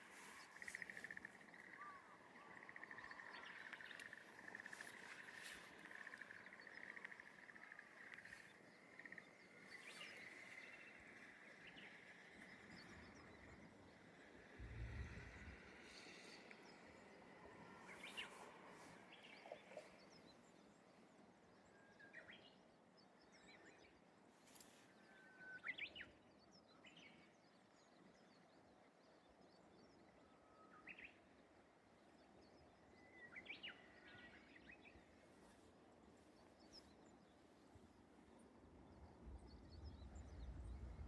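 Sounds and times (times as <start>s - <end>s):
faint outdoor hiss: 0.0s - 41.0s.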